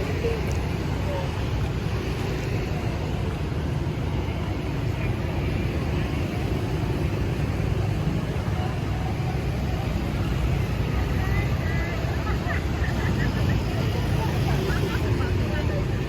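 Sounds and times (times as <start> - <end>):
faint voices: 0.0 - 16.0
low traffic rumble: 0.0 - 16.0.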